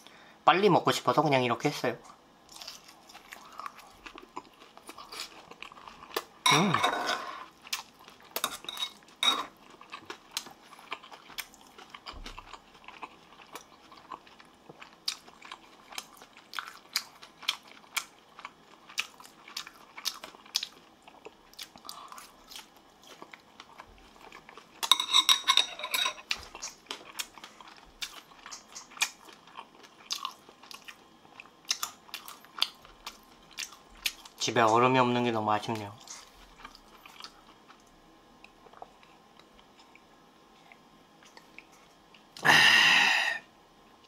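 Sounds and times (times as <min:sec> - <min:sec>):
chewing and crunching fried food: 0:01.2 - 0:06.8, 0:07.4 - 0:42.8.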